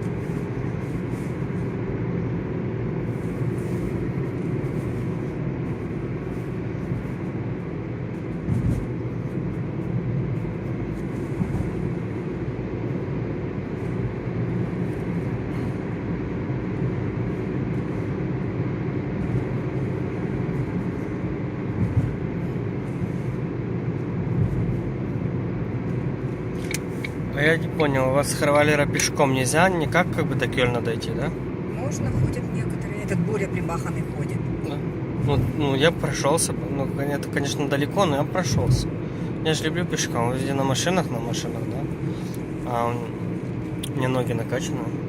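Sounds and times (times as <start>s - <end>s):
car cabin road and engine noise: 0.0s - 45.0s.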